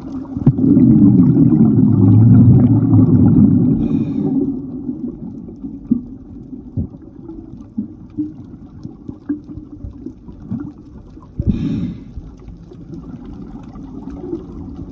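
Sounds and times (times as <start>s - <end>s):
muffled underwater rumble: 0.0s - 14.9s.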